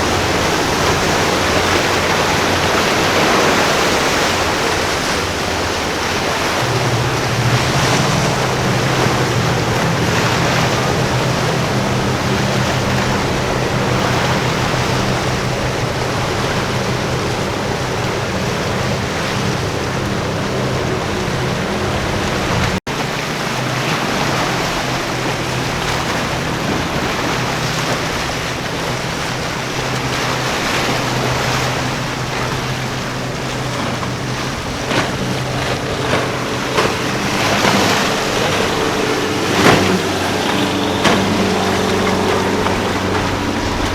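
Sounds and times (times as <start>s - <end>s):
motorboat engine droning: 0.0s - 43.9s
surf washing: 0.0s - 43.9s.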